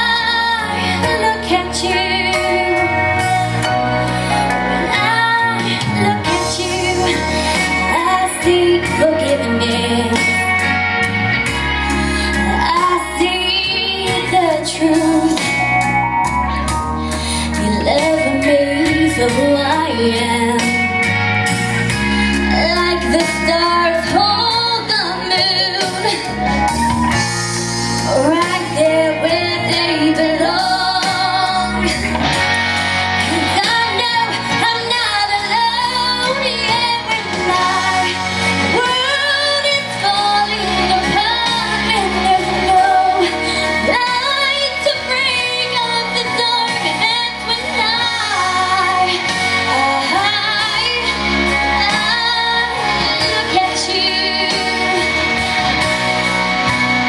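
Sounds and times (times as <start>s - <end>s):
backing track: 0.0s - 57.0s
woman singing a pop ballad: 0.0s - 57.0s.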